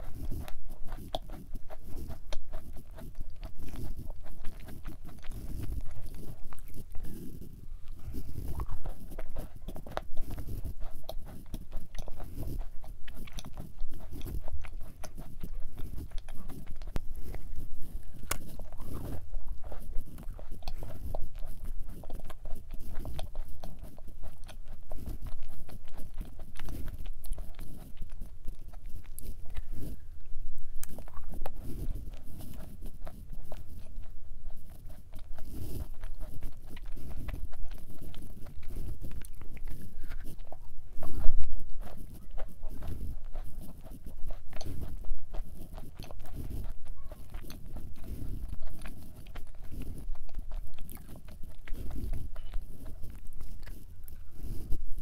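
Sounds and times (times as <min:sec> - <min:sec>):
chewing crunchy cookie: 0:00.0 - 0:55.0.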